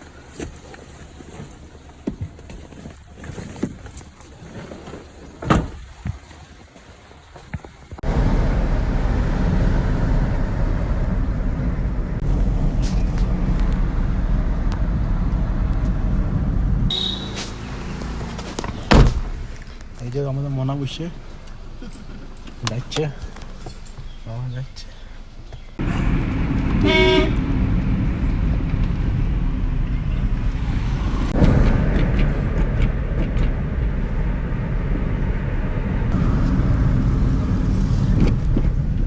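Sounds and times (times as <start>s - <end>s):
vehicle rumbling in motion: 0.0s - 39.0s.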